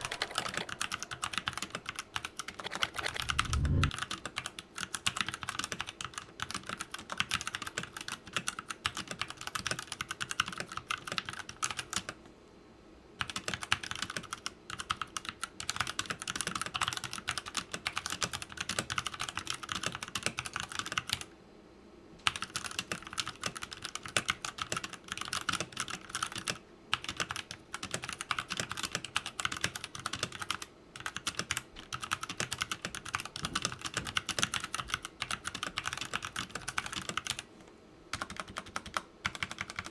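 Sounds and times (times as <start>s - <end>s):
fast mechanical keyboard typing: 0.0s - 12.2s, 13.2s - 21.3s, 22.2s - 37.5s, 38.1s - 39.9s.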